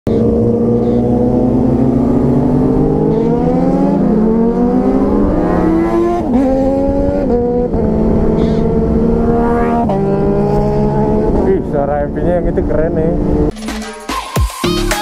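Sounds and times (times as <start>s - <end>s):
motorcycle engine accelerating: 0.1s - 13.5s.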